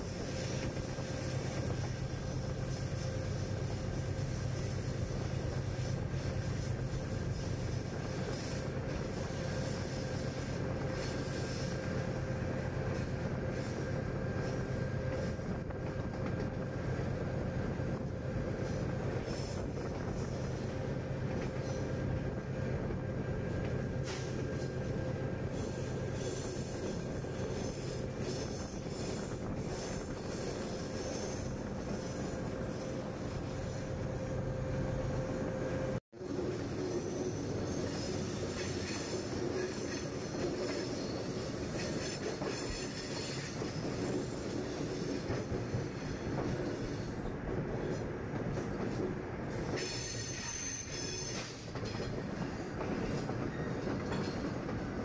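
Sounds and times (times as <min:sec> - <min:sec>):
wheels squealing on rails: 0:00.0 - 0:55.0.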